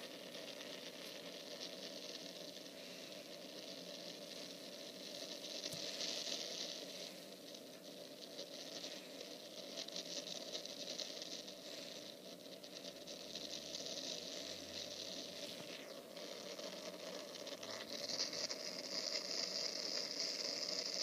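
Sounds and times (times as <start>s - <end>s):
crackling wind noise: 0.0s - 21.0s.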